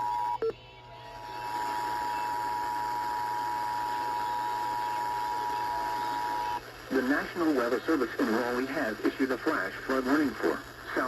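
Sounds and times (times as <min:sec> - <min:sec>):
radio hiss: 0:01.2 - 0:11.0.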